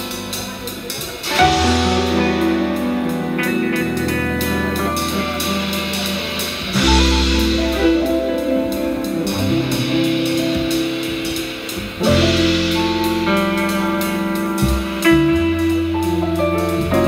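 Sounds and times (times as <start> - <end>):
drum kit with cymbals: 0.0 - 17.0
electric bass: 0.0 - 17.0
electric guitar: 0.0 - 17.0.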